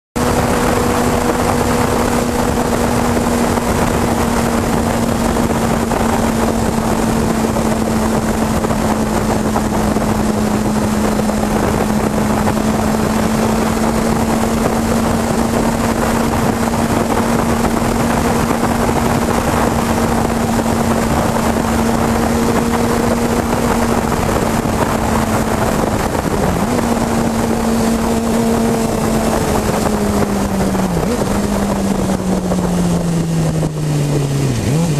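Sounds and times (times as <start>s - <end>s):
motorcycle engine drone: 0.2s - 34.9s
wind buffeting microphone: 0.2s - 34.9s.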